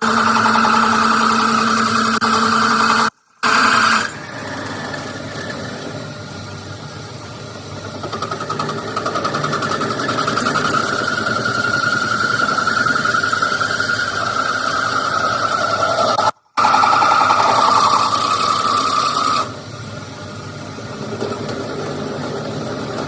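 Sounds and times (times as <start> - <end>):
machine rhythmic buzz: 0.0 - 23.0.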